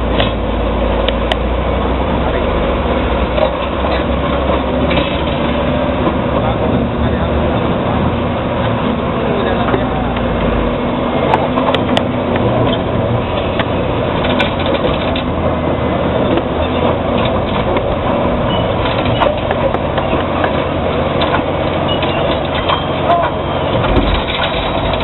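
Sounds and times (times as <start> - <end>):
bulldozer diesel engine under load: 0.0 - 25.0.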